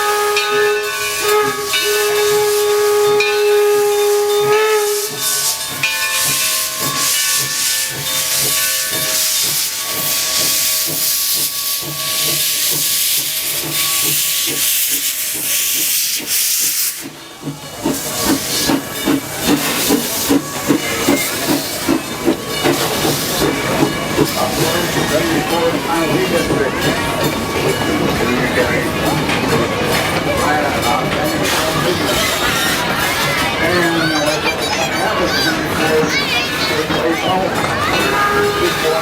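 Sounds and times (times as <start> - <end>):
steam hissing: 0.0 - 39.0.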